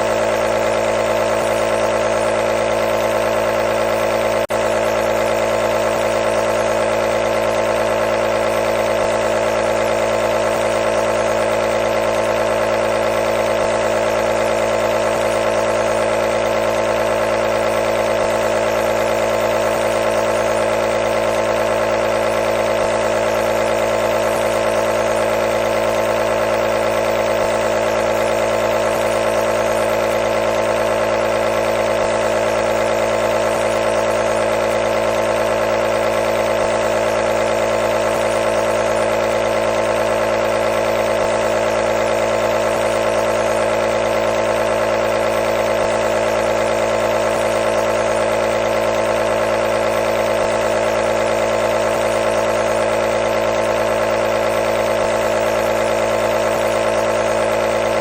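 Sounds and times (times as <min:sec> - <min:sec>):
nebulizer compressor humming: 0:00.0 - 0:58.0.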